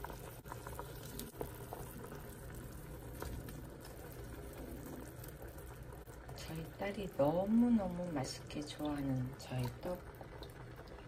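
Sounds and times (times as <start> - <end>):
broth simmering with low bubbling: 0.0 - 11.0.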